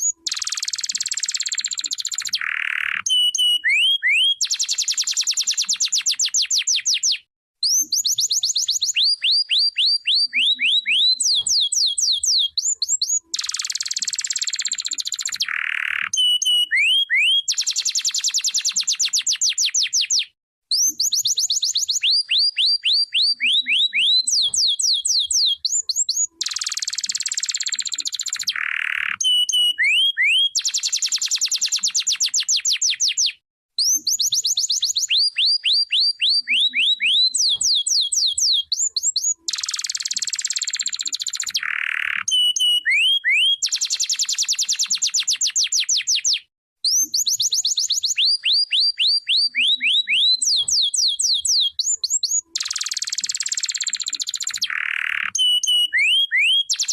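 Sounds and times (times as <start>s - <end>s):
canary singing whistles and trills: 0.0s - 56.9s.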